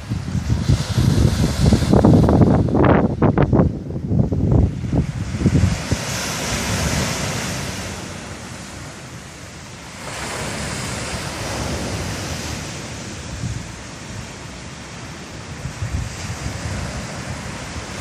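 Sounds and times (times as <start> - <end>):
sea waves washing onto shore: 0.0 - 18.0
wind on microphone: 0.0 - 18.0.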